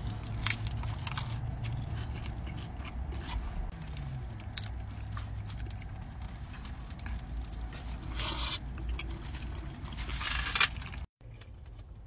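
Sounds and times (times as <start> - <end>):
biting and chewing food: 0.0 - 12.0.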